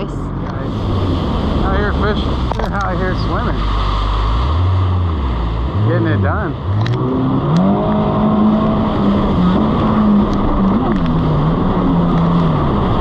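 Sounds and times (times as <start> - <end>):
jet ski engine running: 0.0 - 13.0
rush of water and wind: 0.0 - 13.0.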